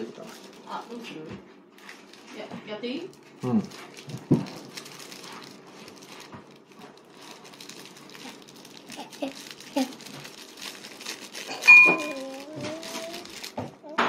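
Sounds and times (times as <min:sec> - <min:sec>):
plastic packet crinkling and tearing: 0:00.0 - 0:14.0.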